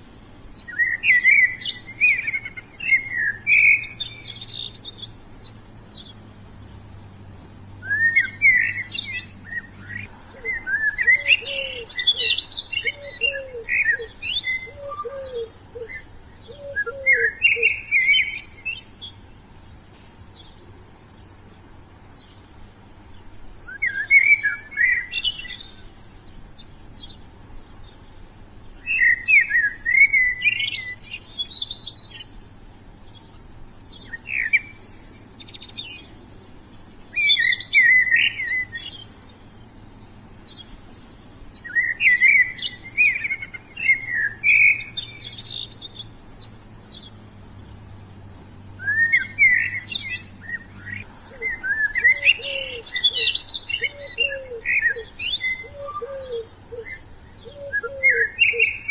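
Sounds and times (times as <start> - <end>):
songbirds chirping and warbling: 0.0 - 58.9.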